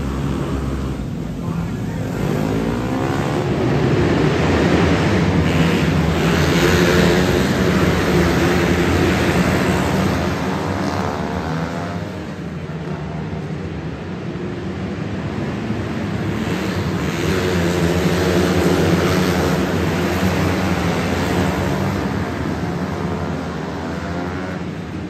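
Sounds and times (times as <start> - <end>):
racing car engines: 0.0 - 25.0.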